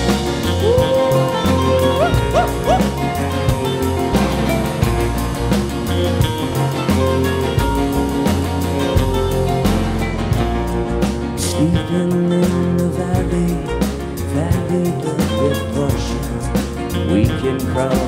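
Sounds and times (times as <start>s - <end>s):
band song with bass and beat: 0.0s - 18.0s.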